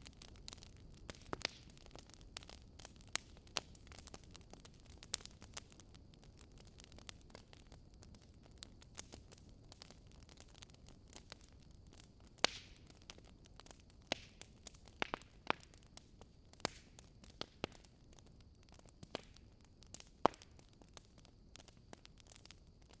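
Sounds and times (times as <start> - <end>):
bonfire crackling and popping: 0.0 - 23.0
low steady hiss: 0.0 - 23.0.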